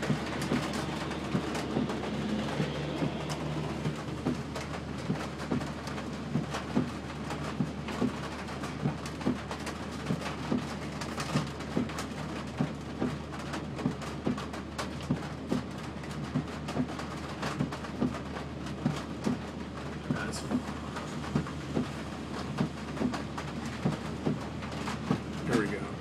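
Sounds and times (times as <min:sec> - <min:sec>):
heavy rain hitting a vehicle: 0:00.0 - 0:26.0
low engine hum: 0:00.0 - 0:26.0.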